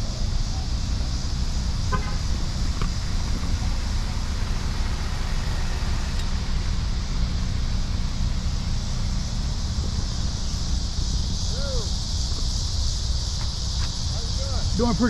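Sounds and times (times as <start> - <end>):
hiss: 0.0 - 15.0.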